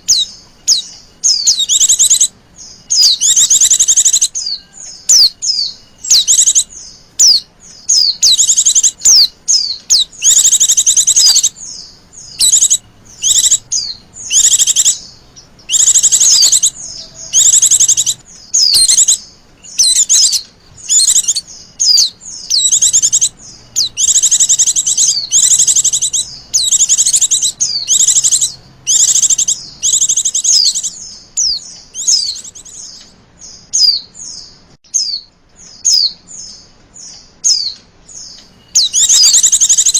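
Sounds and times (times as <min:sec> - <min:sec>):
bird high chirping calls: 0:00.0 - 0:39.9.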